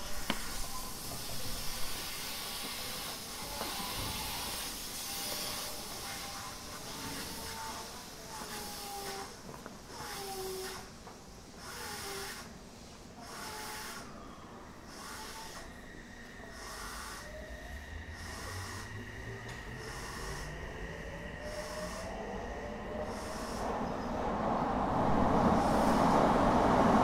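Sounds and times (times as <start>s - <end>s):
train motors whining: 0.0s - 10.9s, 14.7s - 27.0s
rhythmic pulsing hiss: 0.0s - 27.0s.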